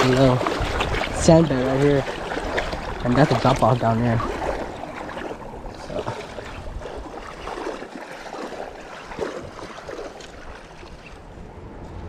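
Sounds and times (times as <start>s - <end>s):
shallow creek water splashing: 0.0s - 11.4s.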